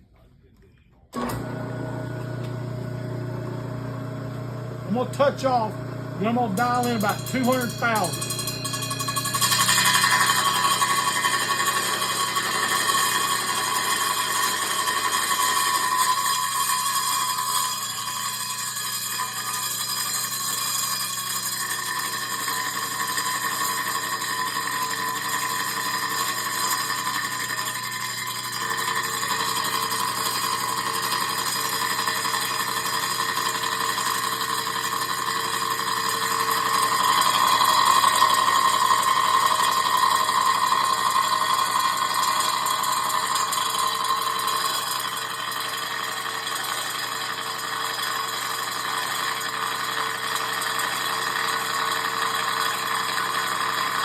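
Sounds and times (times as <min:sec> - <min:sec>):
milling saw ringing whine: 0:01.2 - 0:54.0.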